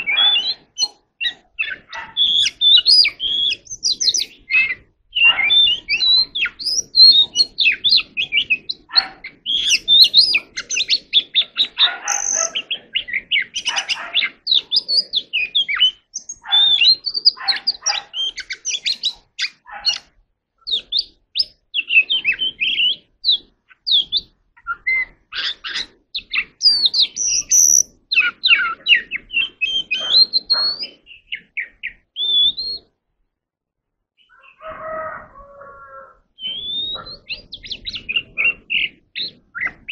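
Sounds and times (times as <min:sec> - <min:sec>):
bird singing whistles and chirps: 0:00.0 - 0:20.0, 0:20.6 - 0:32.9, 0:36.4 - 0:39.9.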